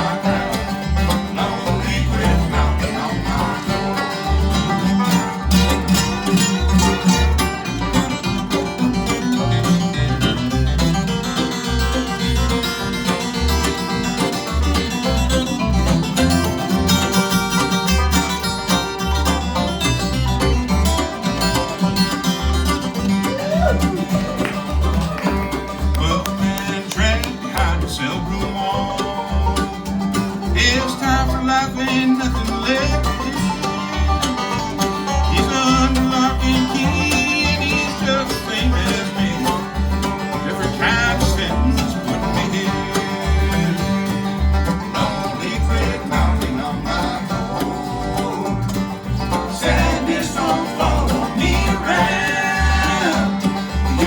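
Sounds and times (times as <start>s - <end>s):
bluegrass band playing: 0.0s - 54.0s.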